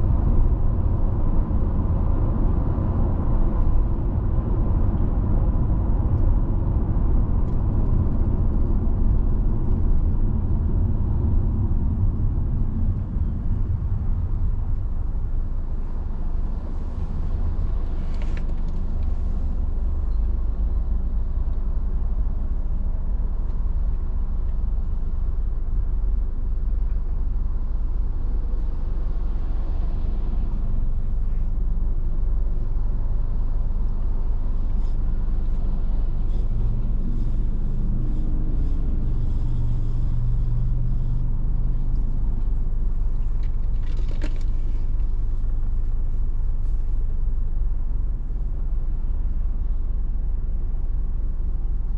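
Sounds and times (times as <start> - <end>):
car tyres and engine rumble: 0.0 - 51.9.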